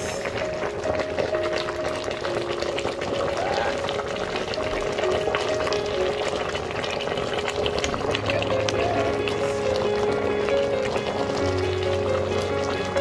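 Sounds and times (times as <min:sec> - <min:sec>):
pot bubbling and crackling: 0:00.0 - 0:13.0.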